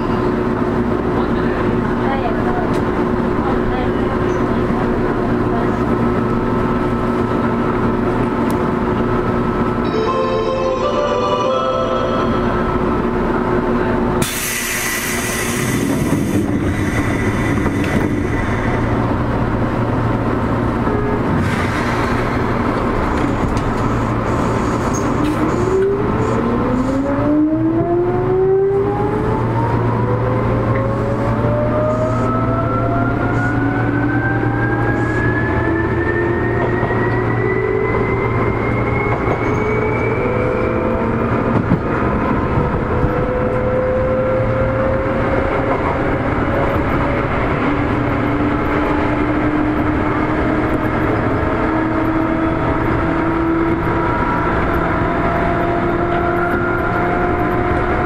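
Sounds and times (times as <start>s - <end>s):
electric train humming: 4.0s - 27.0s, 27.6s - 58.0s.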